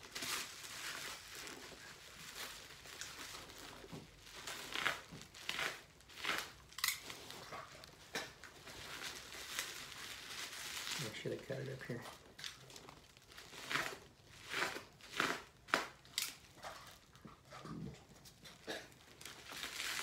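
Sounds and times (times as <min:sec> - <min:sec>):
bubble wrap crinkling and crackling: 0:00.0 - 0:20.0.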